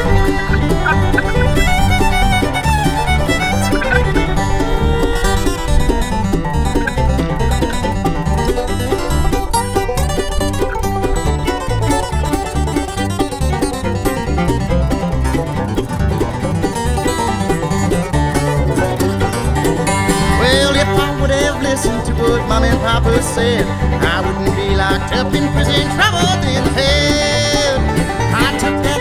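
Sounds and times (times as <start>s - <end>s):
bluegrass banjo and guitar: 0.0s - 29.0s.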